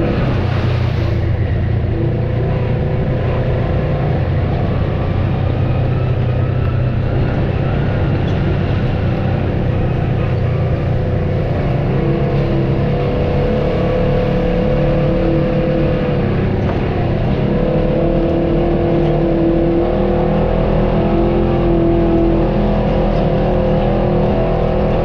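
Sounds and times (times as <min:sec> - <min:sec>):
off-road vehicle engine running: 0:00.0 - 0:25.0.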